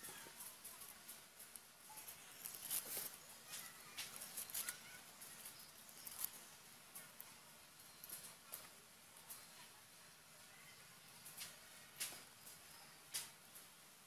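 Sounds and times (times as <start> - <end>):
leaves rustling: 0.0 - 14.0.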